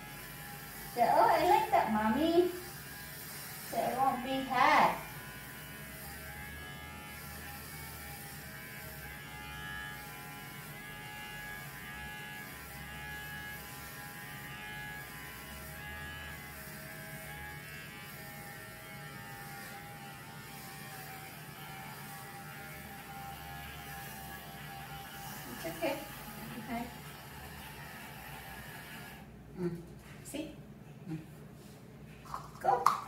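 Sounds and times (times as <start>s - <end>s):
electric hair clipper buzzing: 0.0s - 29.3s.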